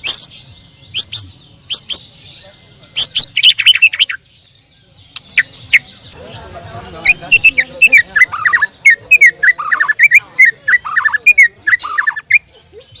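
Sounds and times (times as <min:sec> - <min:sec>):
bird singing whistled notes: 0:00.0 - 0:06.1, 0:07.1 - 0:13.0.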